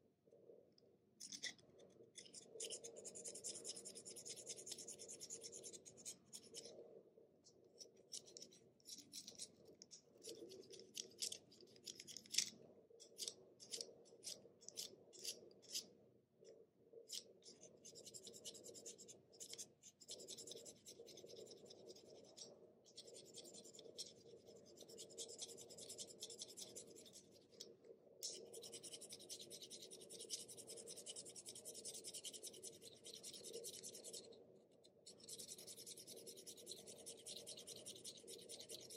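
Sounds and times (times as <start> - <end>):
knife blade scraping pencil: 1.2 - 6.7, 7.7 - 15.9, 17.0 - 38.9.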